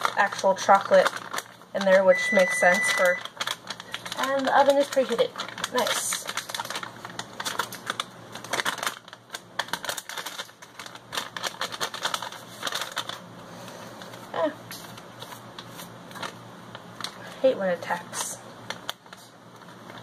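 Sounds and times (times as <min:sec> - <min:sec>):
packet crinkling and rustling: 0:00.0 - 0:20.0.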